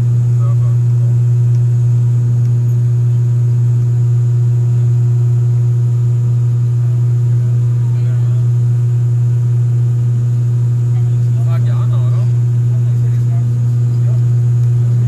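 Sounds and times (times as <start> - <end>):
turboprop engines droning in cabin: 0.0 - 15.0.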